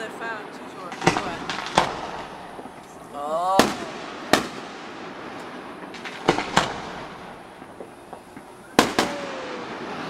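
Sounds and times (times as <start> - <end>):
faint firework cracks: 0.8 - 10.0
firework shells bursting: 0.8 - 10.0.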